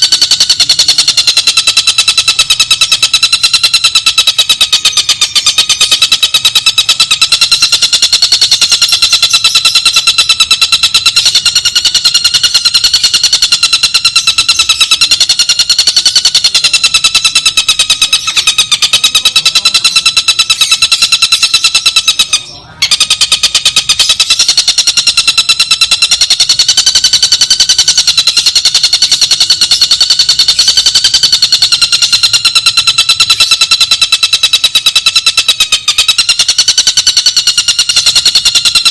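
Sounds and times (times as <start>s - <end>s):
bird buzzing trill: 0.0s - 38.9s.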